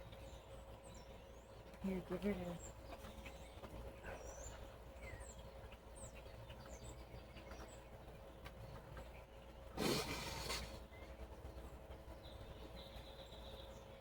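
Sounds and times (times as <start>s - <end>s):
quiet outdoor background noise: 0.0s - 14.0s
small birds chirping: 0.0s - 14.0s.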